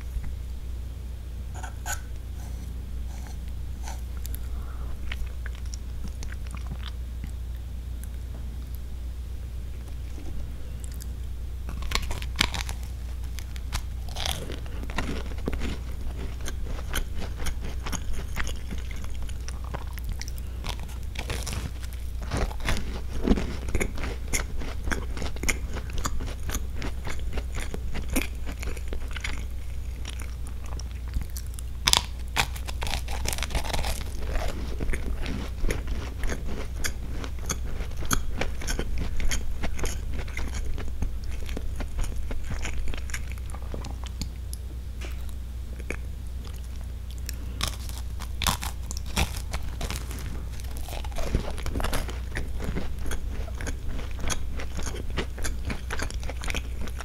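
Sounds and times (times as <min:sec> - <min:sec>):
steady low hum: 0:00.0 - 0:57.0
crunching wafer cookie: 0:09.7 - 0:57.0.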